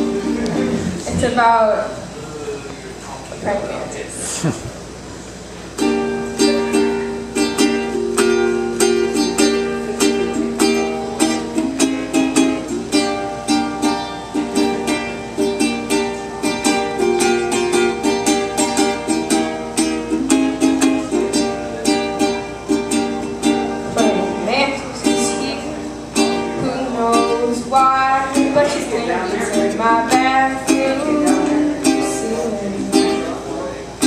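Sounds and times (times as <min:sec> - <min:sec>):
ukulele strumming: 0:00.0 - 0:02.1, 0:05.6 - 0:34.0.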